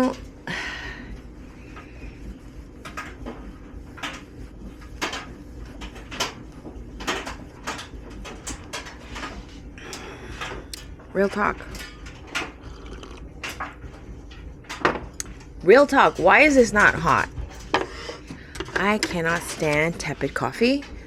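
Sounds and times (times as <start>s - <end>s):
household objects clicking and knocking: 2.8s - 21.0s.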